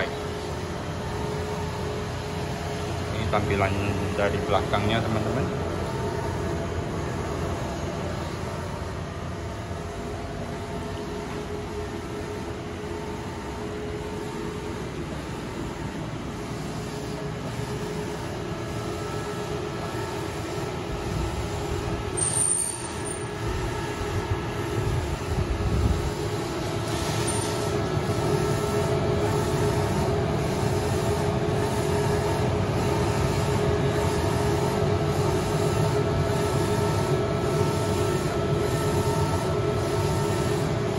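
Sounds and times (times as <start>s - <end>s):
printer mechanical hum: 0.0s - 40.9s.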